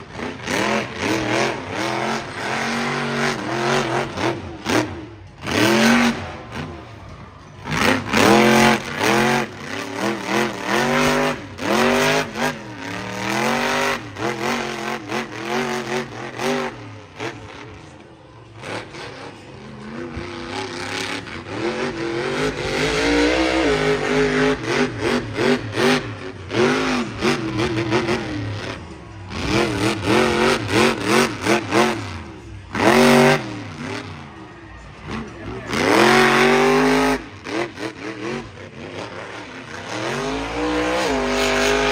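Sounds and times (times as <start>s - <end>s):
monster truck engine revving: 0.0s - 41.9s.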